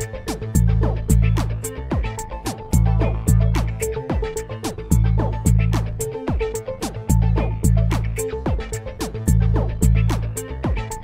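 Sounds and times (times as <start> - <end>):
plucked guitar over beat: 0.0 - 11.0.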